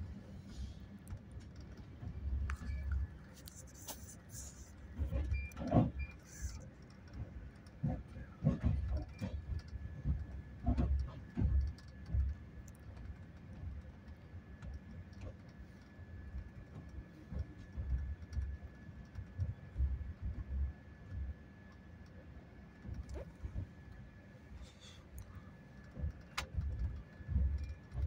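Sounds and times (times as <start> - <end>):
train coach running rumble: 0.0 - 28.0.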